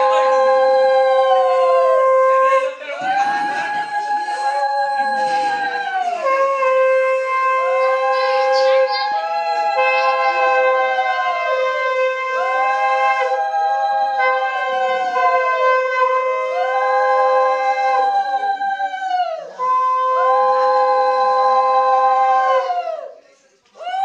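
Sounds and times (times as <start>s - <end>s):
conch shells blown: 0.0s - 23.1s.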